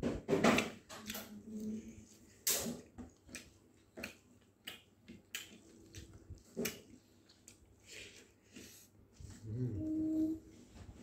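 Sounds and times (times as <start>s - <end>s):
person chewing food: 0.6s - 9.5s.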